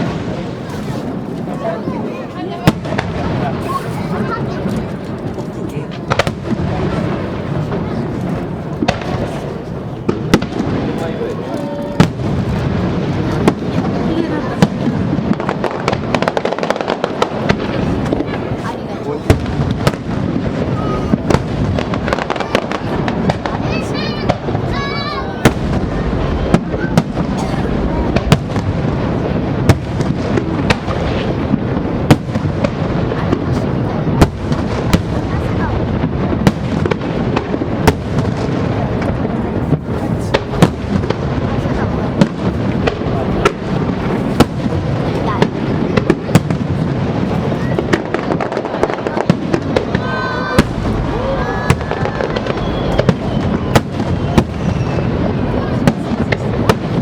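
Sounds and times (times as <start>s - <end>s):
crowd chatter: 0.0s - 57.0s
faint fireworks pops: 0.0s - 57.0s
fireworks bangs: 0.0s - 57.0s.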